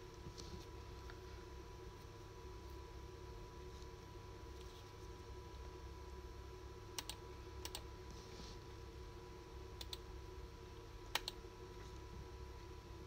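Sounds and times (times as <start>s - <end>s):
faint background hum: 0.0s - 13.0s.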